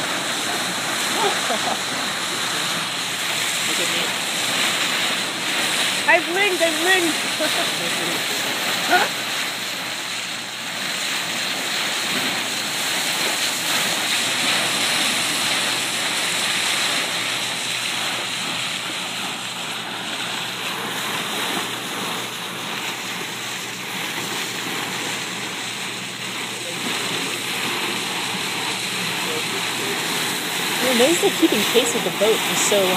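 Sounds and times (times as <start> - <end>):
sea water rushing along hull: 0.0 - 32.9.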